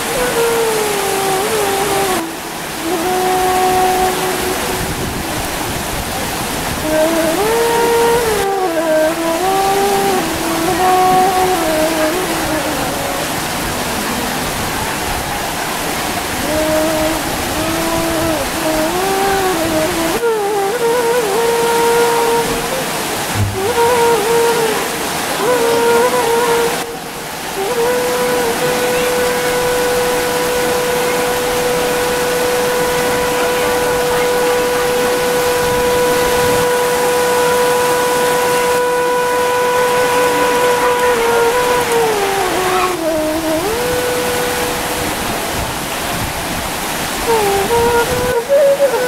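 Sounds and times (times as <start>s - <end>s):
melody of wavering held notes: 0.0s - 45.9s
heavy rain pouring: 0.0s - 49.0s
long high tone: 0.0s - 49.0s.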